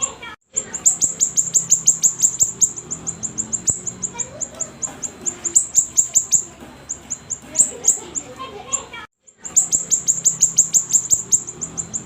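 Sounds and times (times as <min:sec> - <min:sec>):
bird chattering song: 0:00.0 - 0:12.0.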